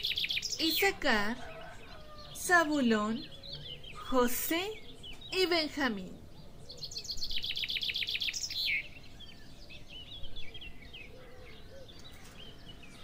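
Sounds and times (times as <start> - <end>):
birds trilling and chirping: 0.0 - 13.0.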